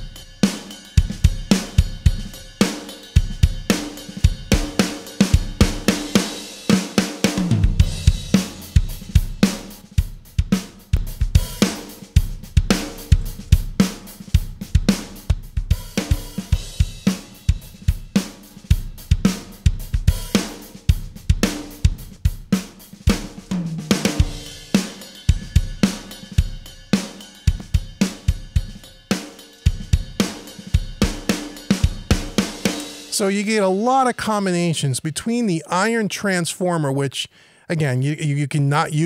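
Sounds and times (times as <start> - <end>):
drum kit groove: 0.0 - 36.7, 37.7 - 39.0.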